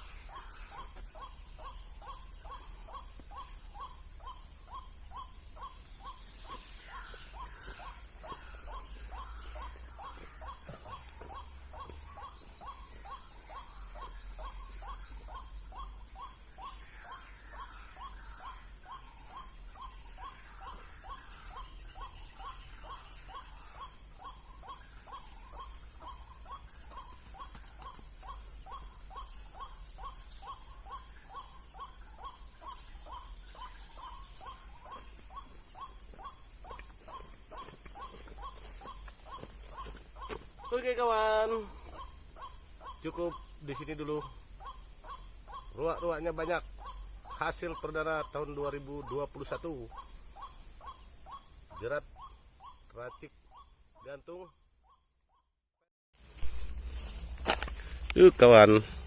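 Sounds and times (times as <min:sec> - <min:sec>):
waterhen calling: 0:00.0 - 0:54.2.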